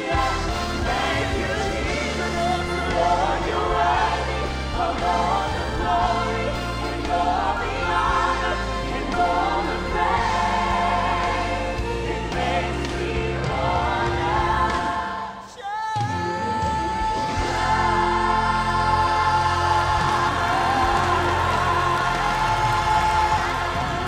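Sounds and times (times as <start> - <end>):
live gospel band and singers: 0.0 - 24.0.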